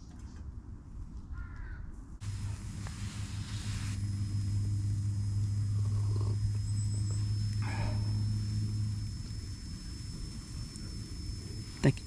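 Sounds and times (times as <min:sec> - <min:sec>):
gas stove burner hum: 0:02.2 - 0:12.0.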